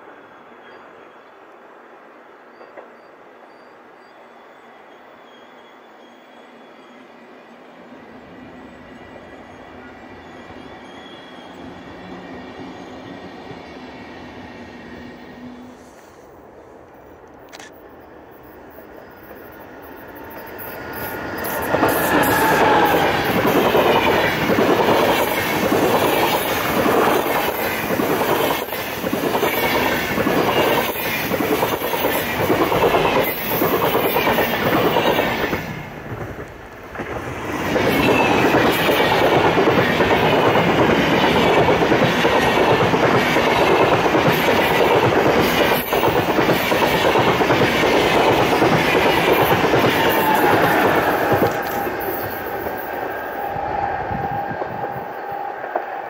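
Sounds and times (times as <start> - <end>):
passing train running noise: 0.0 - 56.0.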